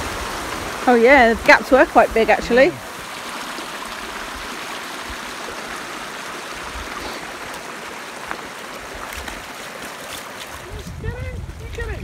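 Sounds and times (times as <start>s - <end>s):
stream running over stones: 0.0s - 12.0s.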